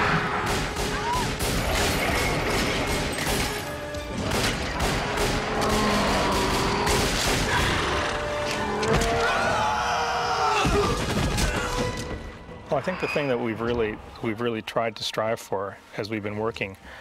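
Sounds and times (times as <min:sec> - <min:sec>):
film score music: 0:00.0 - 0:17.0.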